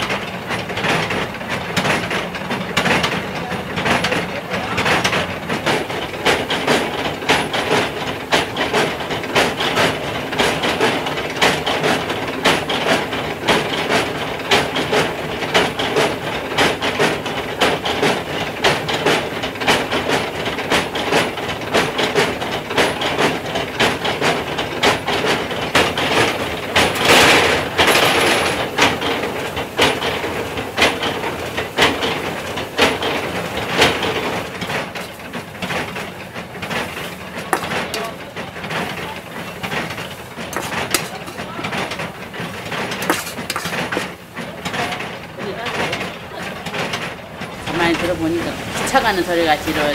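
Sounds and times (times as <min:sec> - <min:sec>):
machinery rhythmic clatter: 0:00.0 - 0:49.9.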